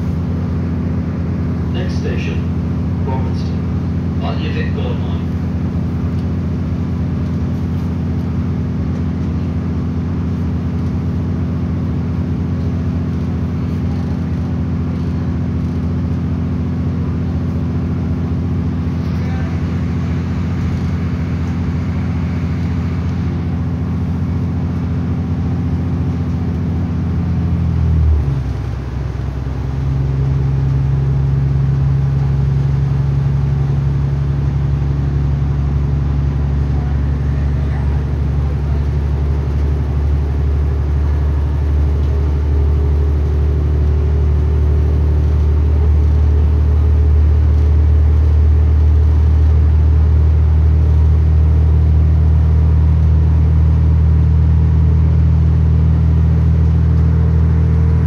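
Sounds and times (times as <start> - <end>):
train engine drone: 0.0 - 58.0.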